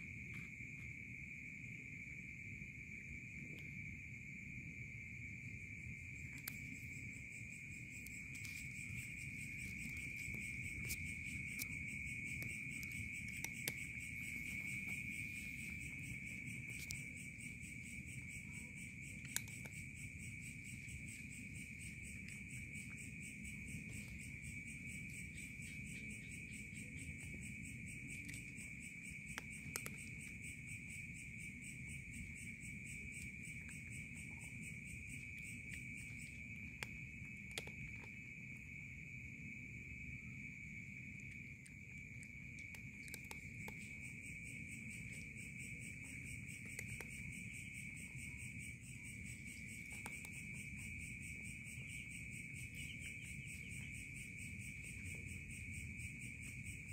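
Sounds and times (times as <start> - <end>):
night insects trilling: 0.0 - 56.9.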